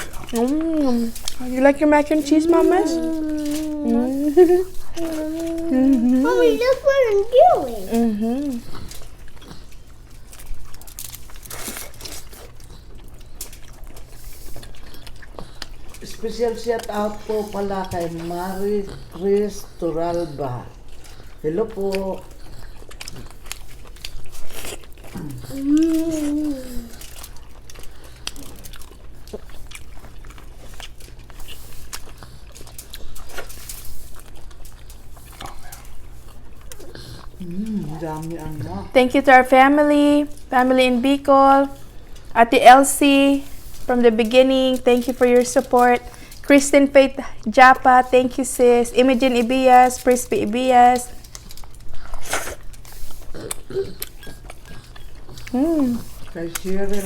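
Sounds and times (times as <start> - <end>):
food crinkling and crunching: 0.0 - 57.0
low steady hum: 0.0 - 57.0.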